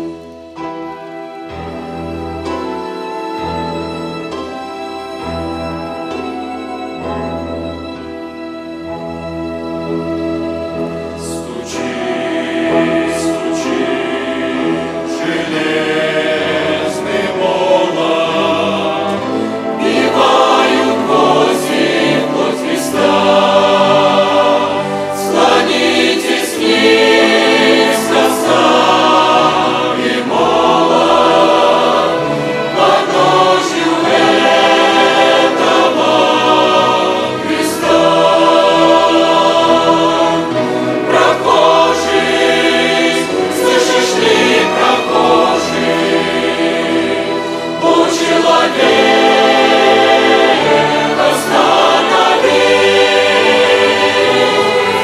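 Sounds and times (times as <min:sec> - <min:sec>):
choir singing a hymn: 0:00.0 - 0:55.0
string orchestra: 0:00.0 - 0:55.0.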